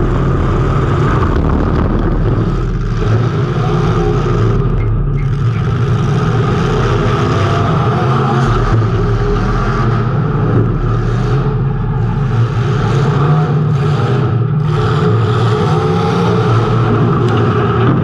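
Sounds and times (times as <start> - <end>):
race car engine running hard: 0.0 - 18.0.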